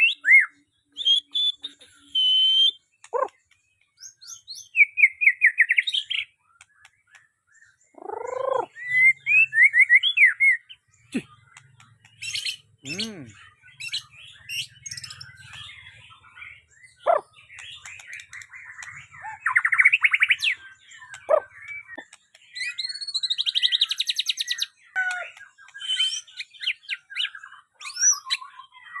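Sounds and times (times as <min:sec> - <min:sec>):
songbird singing: 0:00.0 - 0:29.0.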